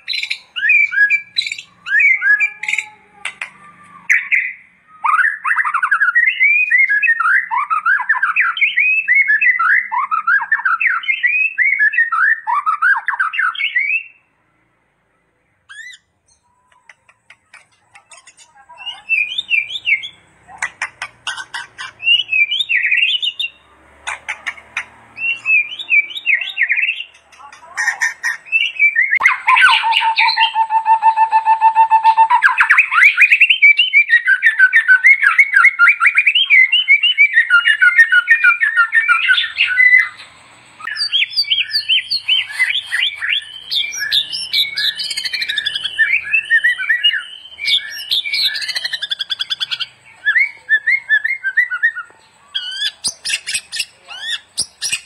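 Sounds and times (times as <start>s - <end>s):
songbird singing varied song: 0.0s - 55.0s.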